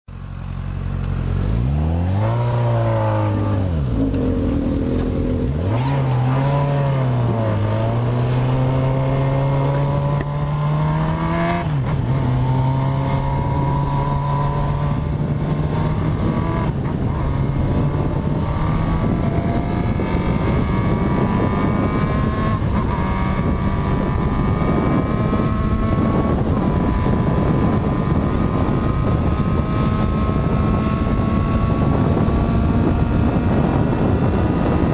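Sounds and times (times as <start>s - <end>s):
motorcycle engine revving and accelerating: 0.4s - 34.9s
wind noise: 1.4s - 34.9s.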